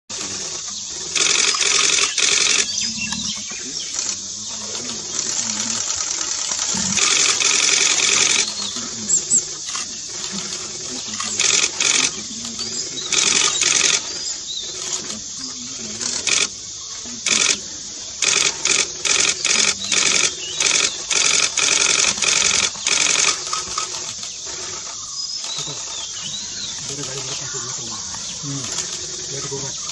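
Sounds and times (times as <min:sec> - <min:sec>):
insects buzzing: 0:00.1 - 0:29.9.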